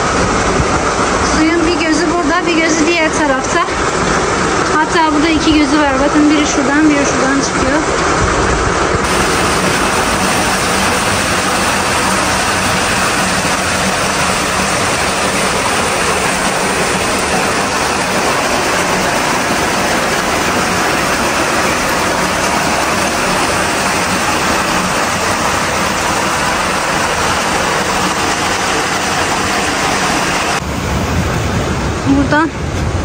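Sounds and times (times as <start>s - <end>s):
rushing spring water: 0.0s - 33.0s.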